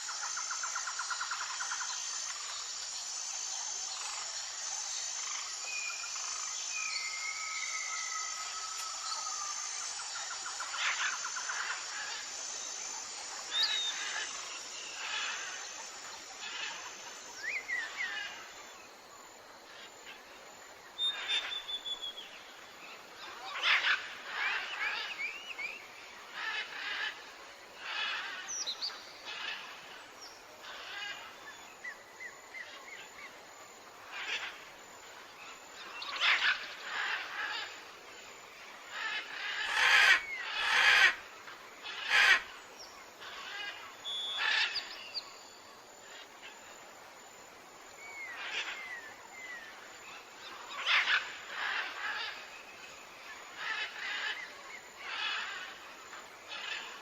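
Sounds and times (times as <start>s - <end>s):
steady background hiss: 0.0s - 57.0s
wild birds chirping and trilling: 0.0s - 57.0s.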